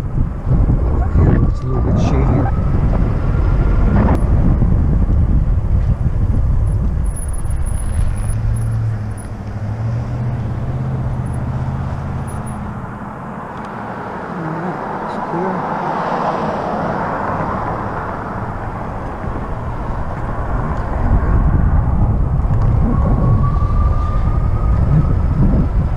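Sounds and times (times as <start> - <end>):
vehicle engine hum: 0.0 - 25.9
wind rumble on microphone: 0.0 - 25.9.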